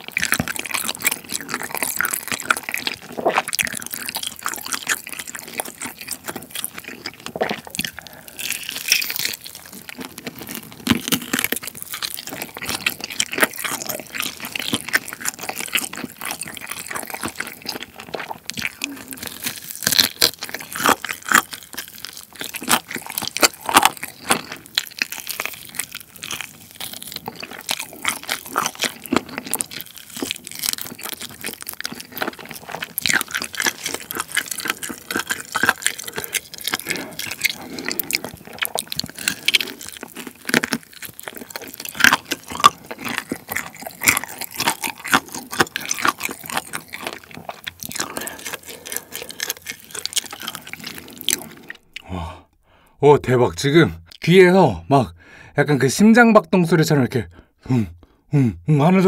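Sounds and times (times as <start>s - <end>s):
wet mouth clicks and smacks: 0.0s - 52.1s
chewing meat: 0.0s - 52.6s.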